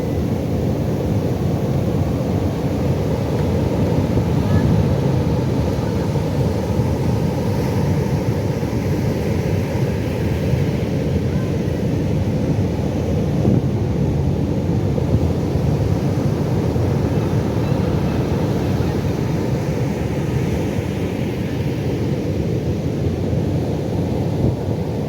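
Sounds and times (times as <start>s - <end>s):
surf breaking waves: 0.0s - 25.0s.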